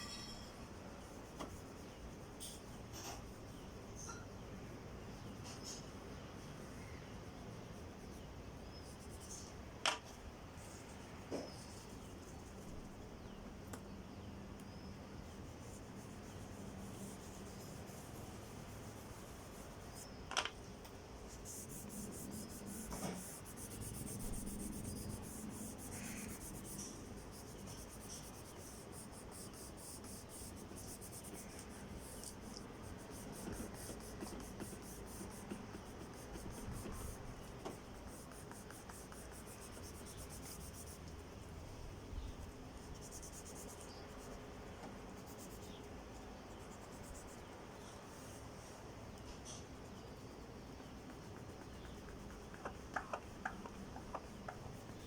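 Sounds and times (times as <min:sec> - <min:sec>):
oil pastel scratching on paper: 0:01.0 - 0:04.2, 0:07.7 - 0:09.6, 0:10.6 - 0:13.3, 0:15.1 - 0:20.2, 0:21.2 - 0:41.6, 0:42.2 - 0:55.0.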